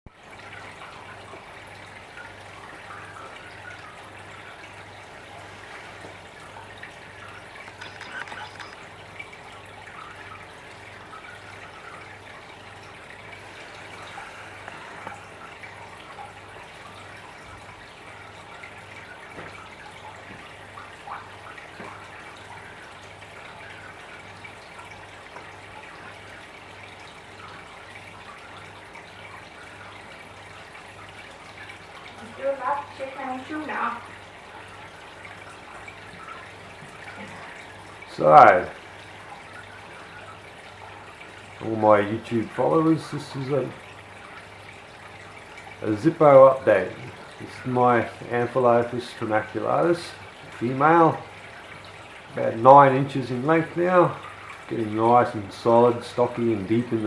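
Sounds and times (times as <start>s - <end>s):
aquarium water trickling: 0.1s - 57.0s.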